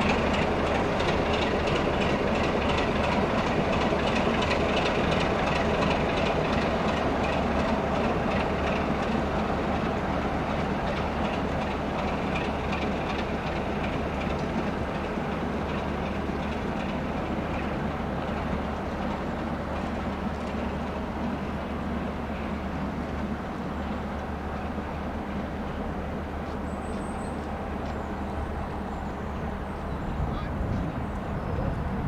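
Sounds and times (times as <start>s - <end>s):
diesel locomotive engine running: 0.0s - 32.0s.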